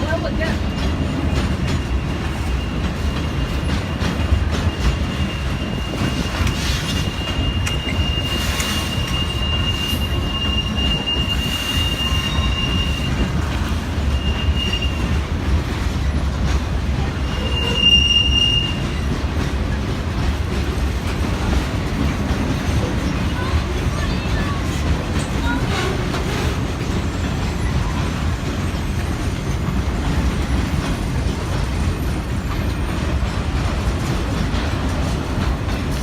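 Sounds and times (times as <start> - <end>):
train rumbling on rails: 0.0 - 36.0
train wheels squealing: 0.0 - 36.0.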